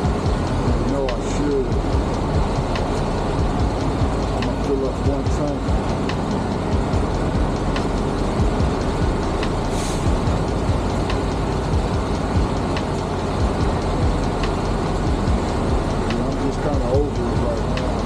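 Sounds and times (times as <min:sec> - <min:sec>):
diesel truck engine running: 0:00.0 - 0:18.0
faint regular ticking: 0:00.0 - 0:18.0.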